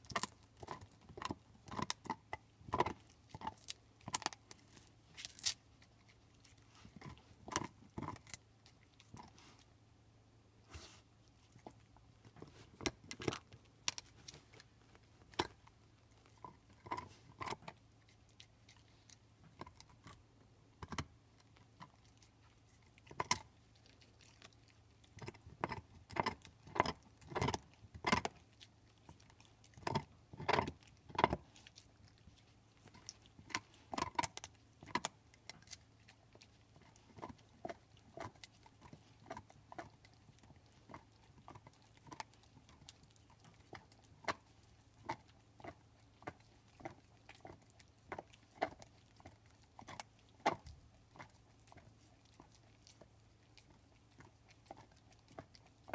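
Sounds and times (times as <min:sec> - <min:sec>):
dog gnawing on bone: 0:00.0 - 0:09.8, 0:11.2 - 0:55.9.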